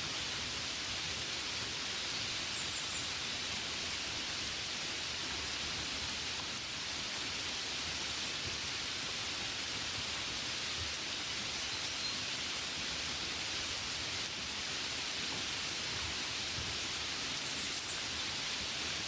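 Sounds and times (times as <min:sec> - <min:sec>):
gentle rain hissing: 0:00.0 - 0:19.0.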